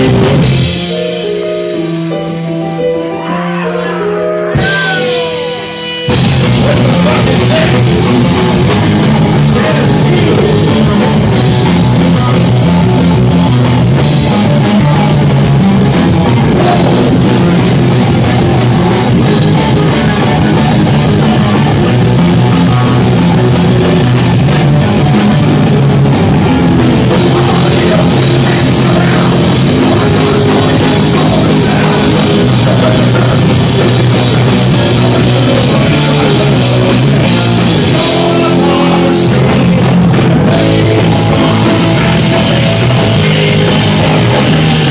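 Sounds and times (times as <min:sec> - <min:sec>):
drum kit: 0:00.0 - 0:44.9
electric guitar: 0:00.0 - 0:44.9.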